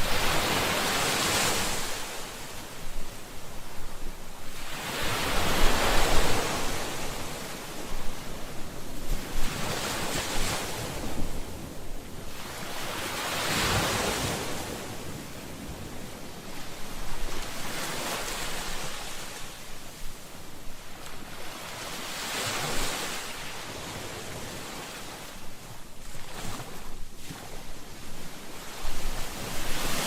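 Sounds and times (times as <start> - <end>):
ocean waves breaking on shore: 0.0 - 30.0.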